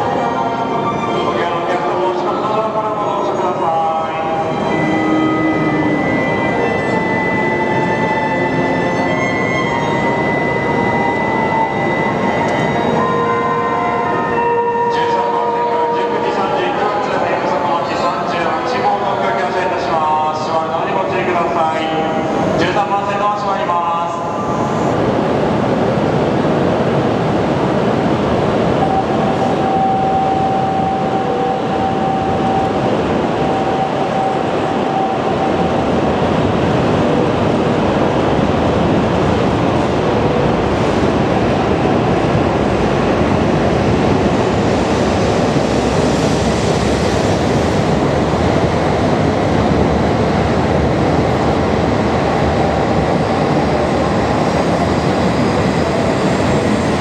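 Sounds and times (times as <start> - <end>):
train running rush: 0.0 - 57.0.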